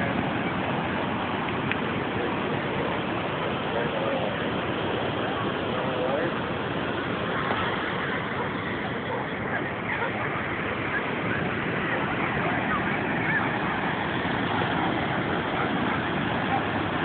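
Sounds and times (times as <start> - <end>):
faint distant voices: 0.0 - 17.0
surf: 0.0 - 17.0
wind: 0.0 - 17.0.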